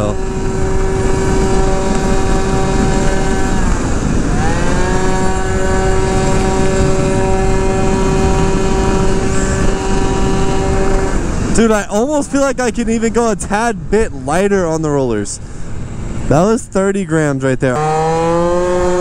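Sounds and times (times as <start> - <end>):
scooter engine at full throttle: 0.0 - 14.0, 17.7 - 19.0
wind noise: 0.0 - 19.0.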